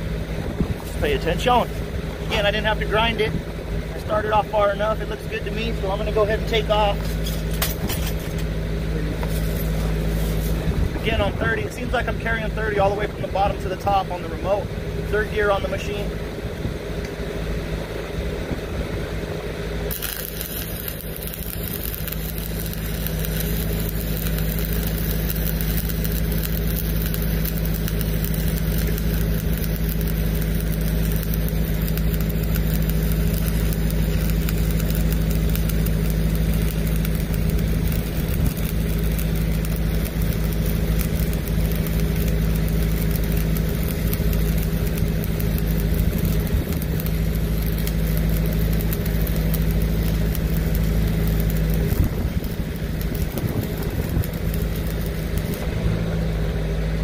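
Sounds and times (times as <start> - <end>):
welding arc crackling and hissing: 0.0 - 16.3, 19.4 - 57.0
diesel engine running: 0.0 - 57.0.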